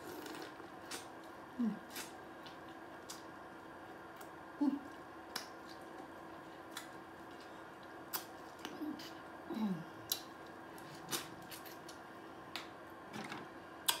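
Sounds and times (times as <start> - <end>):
low hums: 0.0 - 14.0.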